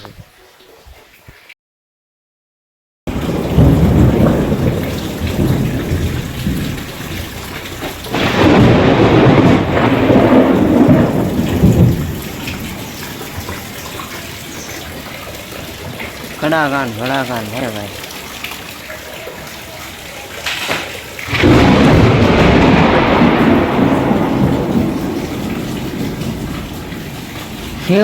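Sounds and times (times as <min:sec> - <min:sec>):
thunder rumbling: 0:03.1 - 0:18.0, 0:20.2 - 0:28.0
heavy rain: 0:03.1 - 0:28.0.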